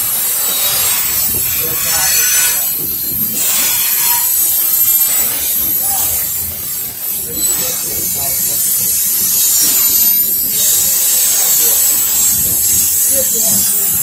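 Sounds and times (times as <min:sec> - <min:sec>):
train wheels running on rails: 0:00.0 - 0:14.0.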